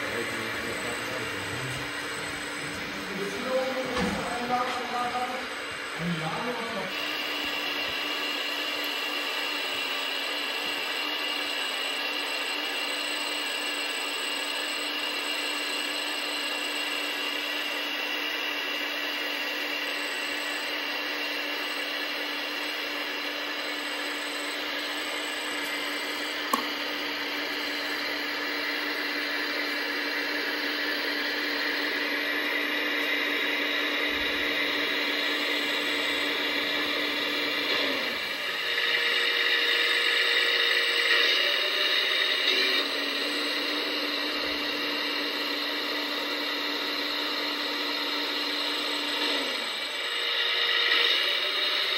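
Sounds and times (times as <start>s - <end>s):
hydraulic pump whining: 0.0s - 51.9s.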